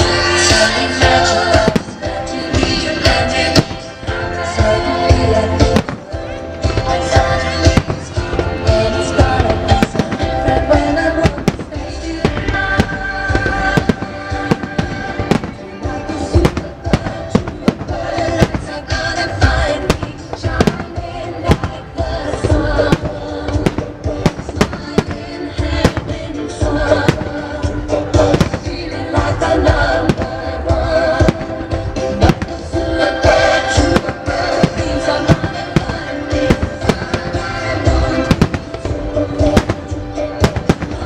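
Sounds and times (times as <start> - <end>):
fireworks bursting: 0.0 - 41.0
loud show music: 0.0 - 41.0.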